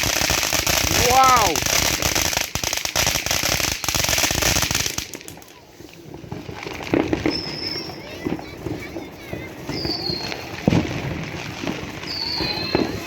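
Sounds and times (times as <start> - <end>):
firework crackling pops: 0.0 - 13.0.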